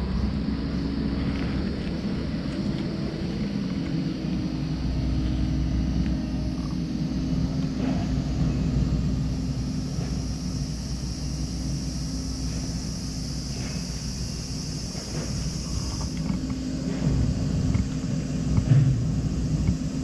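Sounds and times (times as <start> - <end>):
low mechanical rumble: 0.0 - 20.0
steady high hiss: 0.0 - 20.0.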